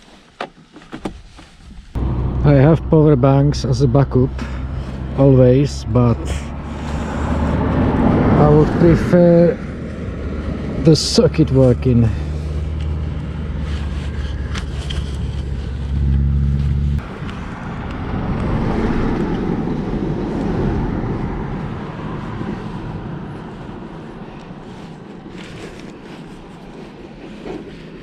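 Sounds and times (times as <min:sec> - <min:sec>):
rushing noise: 0:02.0 - 0:28.0.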